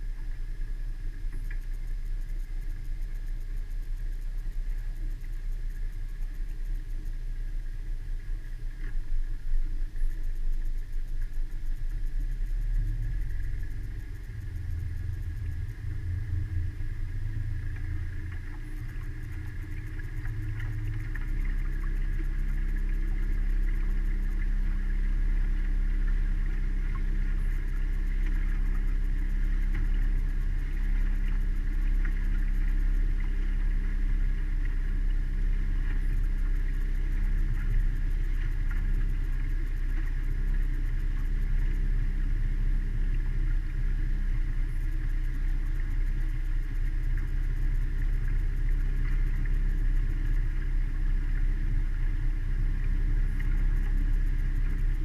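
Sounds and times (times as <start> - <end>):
outboard motor running steadily: 0.0 - 55.0.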